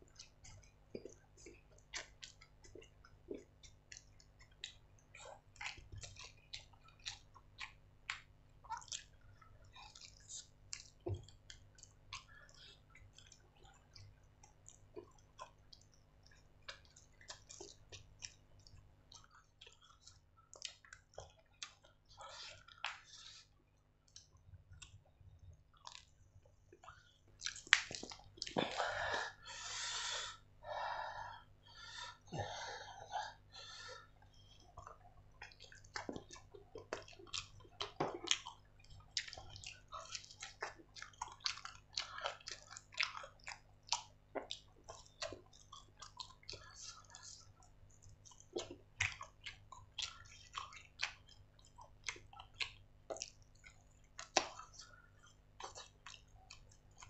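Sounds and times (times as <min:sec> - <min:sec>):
chewing and wet mouth smacks: 0:00.0 - 0:30.4, 0:31.6 - 0:57.0.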